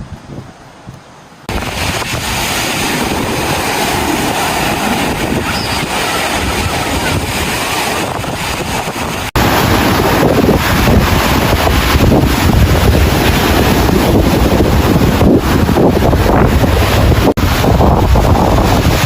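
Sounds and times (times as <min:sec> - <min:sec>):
wind buffeting microphone: 0:00.0 - 0:19.0
sea surf: 0:00.6 - 0:19.0.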